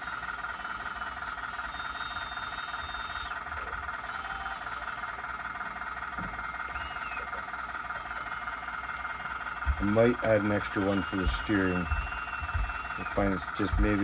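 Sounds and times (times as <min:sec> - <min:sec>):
simulated engine drone from speaker: 0:02.8 - 0:14.0.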